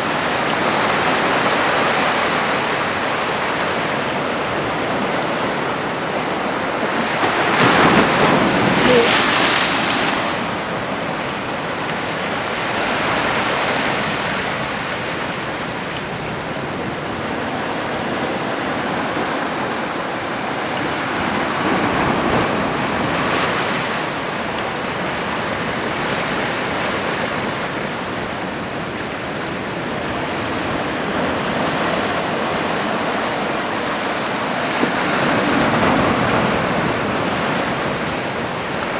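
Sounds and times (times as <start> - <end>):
surf breaking on shore: 0.0 - 38.9.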